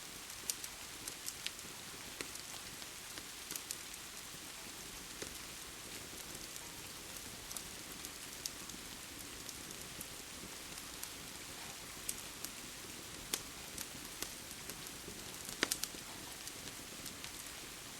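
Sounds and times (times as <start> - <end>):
steady rain hiss: 0.0 - 17.9
wood fire crackling and popping: 0.1 - 17.9.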